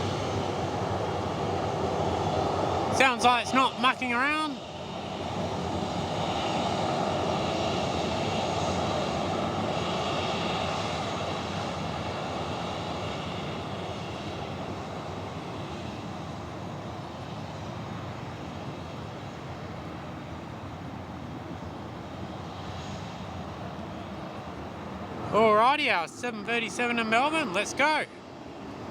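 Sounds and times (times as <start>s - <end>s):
jet engines at takeoff power: 0.0s - 28.9s.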